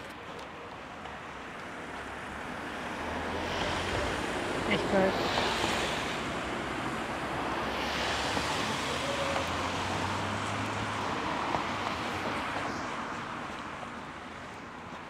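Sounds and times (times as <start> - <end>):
cars driving past: 1.3 - 15.0.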